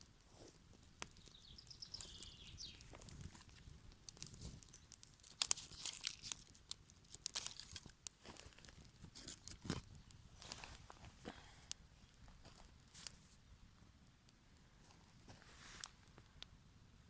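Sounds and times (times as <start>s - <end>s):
campfire twigs crackling: 0.1s - 16.5s.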